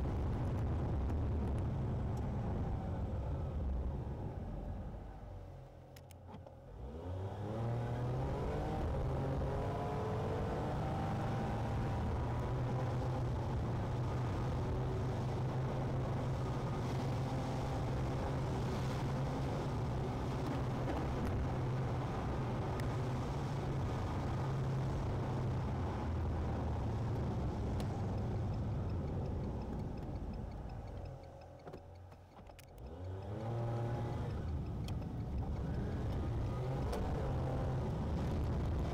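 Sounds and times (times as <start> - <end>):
road noise inside car: 0.0 - 38.9
car engine accelerating: 6.7 - 38.9.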